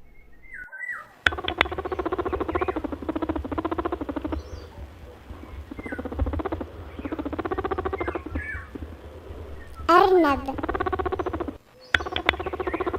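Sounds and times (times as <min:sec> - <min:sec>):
rabbit soft pulses: 0:01.2 - 0:12.9
rabbit high squeaks: 0:01.3 - 0:12.9.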